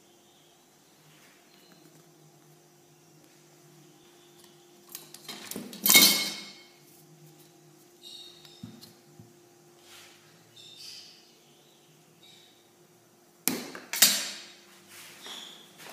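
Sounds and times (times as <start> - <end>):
faint hum: 0.0 - 15.9.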